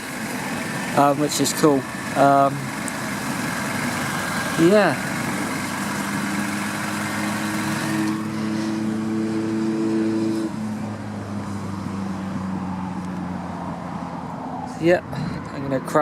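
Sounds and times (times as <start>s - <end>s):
car engine idling: 0.0s - 16.0s
road traffic: 0.0s - 16.0s.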